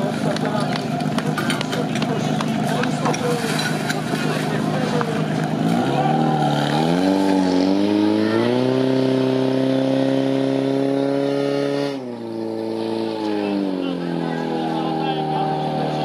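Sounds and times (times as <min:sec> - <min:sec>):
fire pump engine revving: 0:00.0 - 0:16.0.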